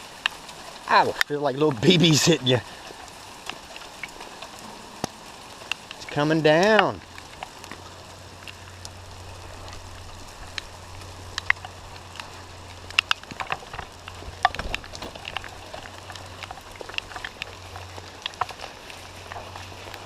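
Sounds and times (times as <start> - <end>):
hail and rain pattering: 0.0 - 20.0
hailstones ticking: 0.0 - 20.0.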